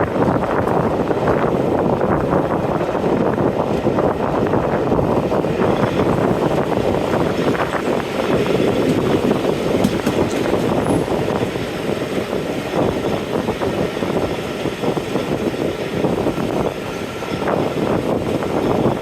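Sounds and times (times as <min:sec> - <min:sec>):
train rumbling: 0:00.0 - 0:19.0
wheels clattering on rails: 0:00.0 - 0:19.0.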